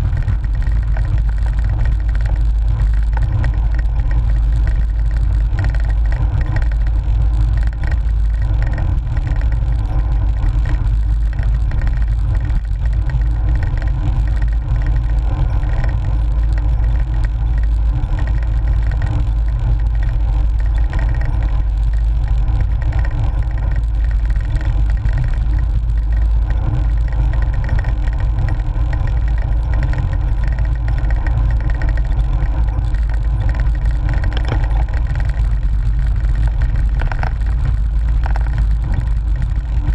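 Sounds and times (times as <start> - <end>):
bike tyre rumble: 0.0 - 39.9.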